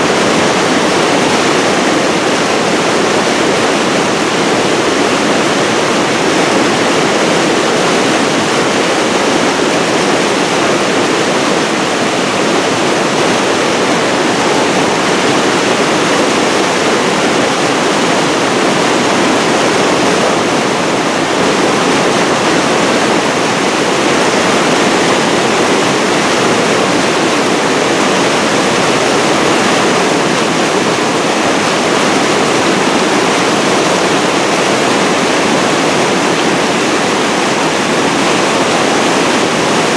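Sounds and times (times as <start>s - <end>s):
river rushing over dam: 0.0s - 39.9s.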